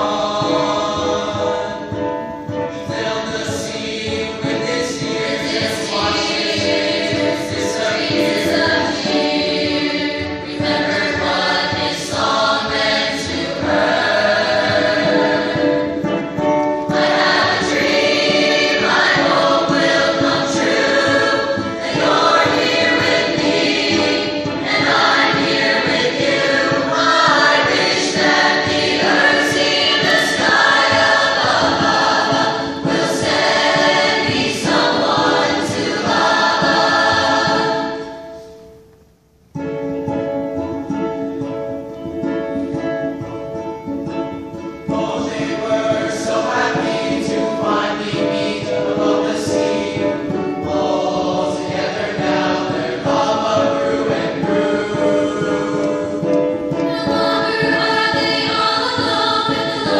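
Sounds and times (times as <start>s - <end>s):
large choir singing: 0.0s - 38.8s, 40.5s - 59.9s.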